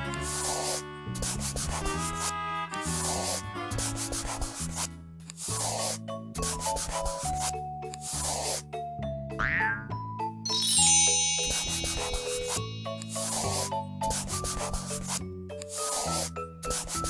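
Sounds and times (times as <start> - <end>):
scratchy scribble sound effect: 0.0 - 8.7, 11.4 - 17.0
light background music: 0.0 - 17.0.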